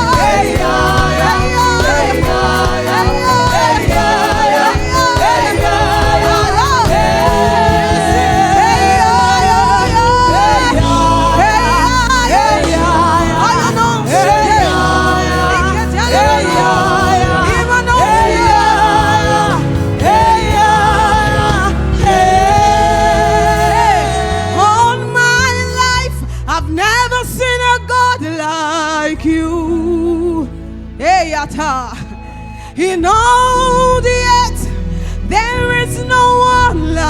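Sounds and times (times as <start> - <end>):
band with bass: 0.0 - 37.0.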